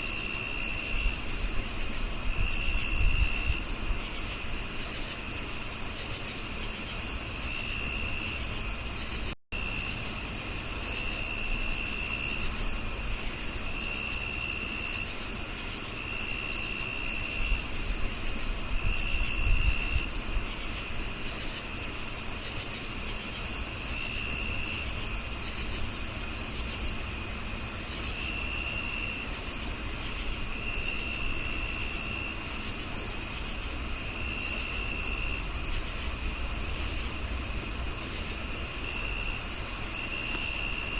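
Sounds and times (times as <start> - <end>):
continuous high cricket trill: 0.0 - 40.9
cricket chirping: 0.0 - 40.9
lower cricket trill bursts: 0.0 - 40.9.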